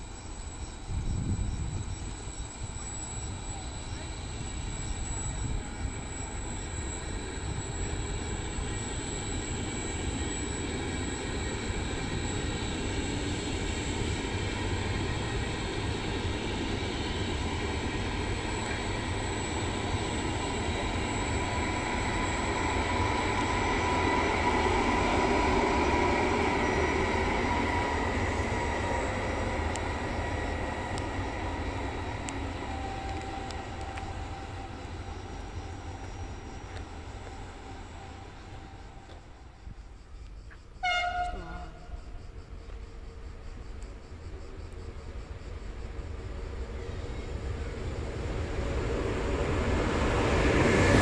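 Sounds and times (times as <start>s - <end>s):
faint locomotive hum: 0.0s - 51.0s
train wheels rumbling on rail: 0.0s - 51.0s.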